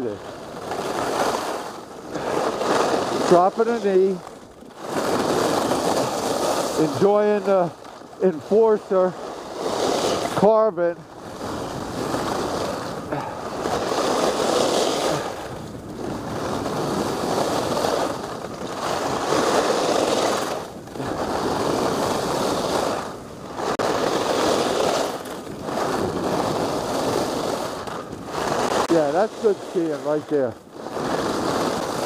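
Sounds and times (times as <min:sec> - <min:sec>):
skis carving on snow: 0:00.0 - 0:32.0
wind rushing over microphone: 0:00.0 - 0:32.0.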